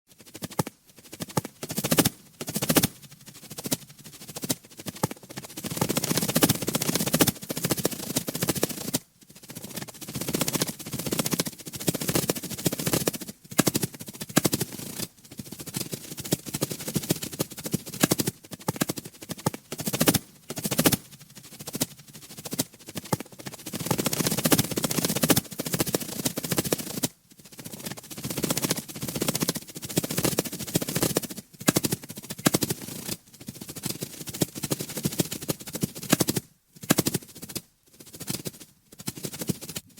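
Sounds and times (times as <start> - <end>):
dragonfly wings rattling: 0.1 - 36.3.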